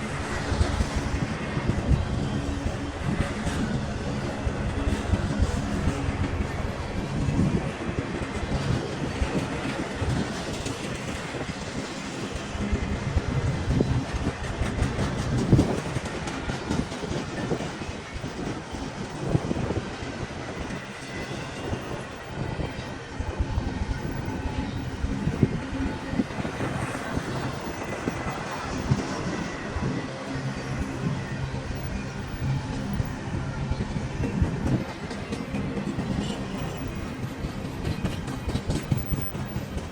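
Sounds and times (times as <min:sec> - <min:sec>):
train rumbling past: 0:00.0 - 0:39.9
wheels clacking over rail joints: 0:00.1 - 0:39.9.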